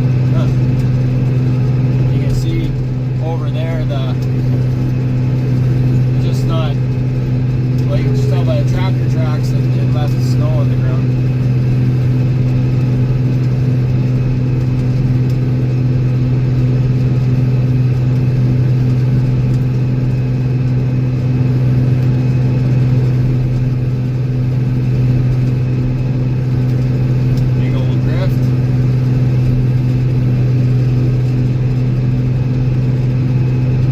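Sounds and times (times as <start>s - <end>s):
tractor diesel engine droning: 0.0s - 33.9s.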